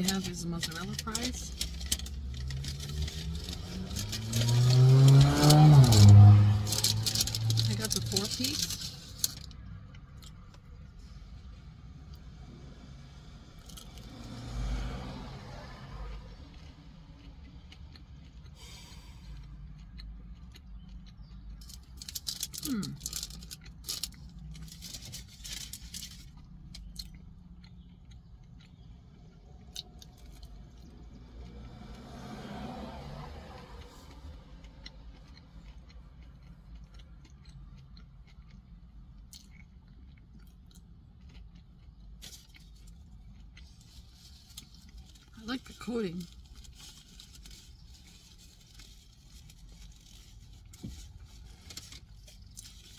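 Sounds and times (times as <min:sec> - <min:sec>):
crunchy chewing: 0:00.0 - 0:11.2, 0:13.5 - 0:45.4, 0:46.2 - 0:52.9.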